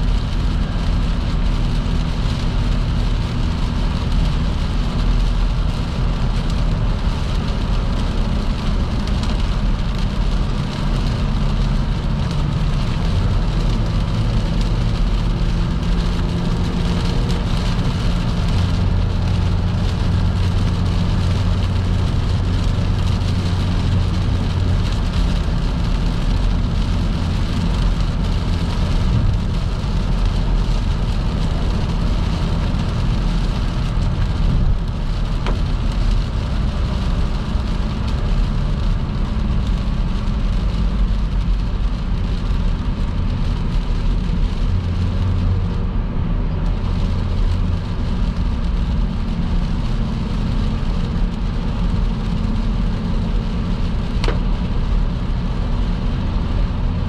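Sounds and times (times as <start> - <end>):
car engine drone: 0.0 - 57.0
rain and tyres on wet road: 0.0 - 57.0.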